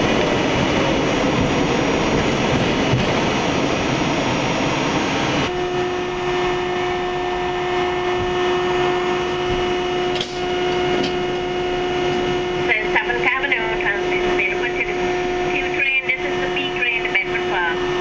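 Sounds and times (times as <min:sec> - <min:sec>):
subway wheels rumbling on rail: 0:00.0 - 0:18.0
steady hum: 0:02.1 - 0:18.0.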